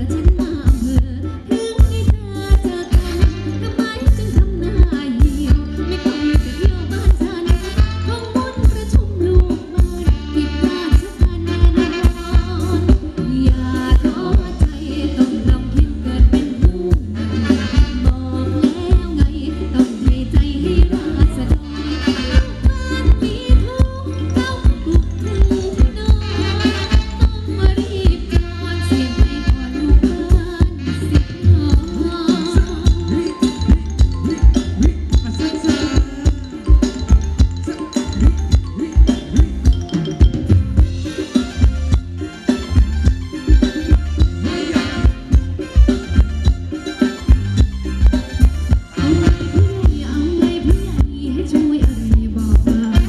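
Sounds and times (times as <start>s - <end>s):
person singing: 0.0s - 37.2s, 37.8s - 39.9s, 48.9s - 53.0s
drum kit beat: 0.0s - 53.0s
heavy bass: 0.0s - 53.0s
live band dance music: 0.0s - 53.0s.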